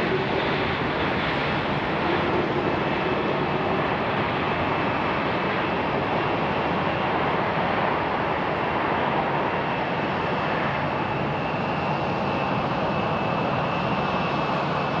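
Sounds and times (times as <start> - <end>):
distant jet engines rushing: 0.0 - 15.0.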